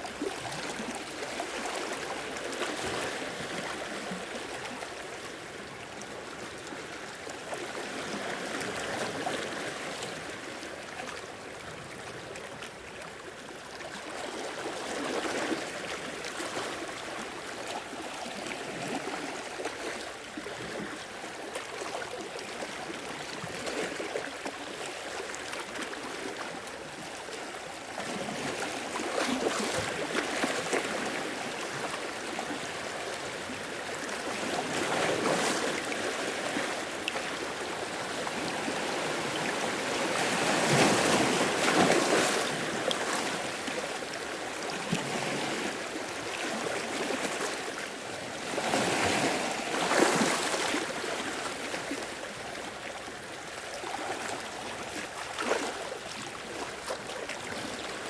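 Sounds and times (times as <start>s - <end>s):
small sea waves over rock and sand: 0.0s - 58.0s.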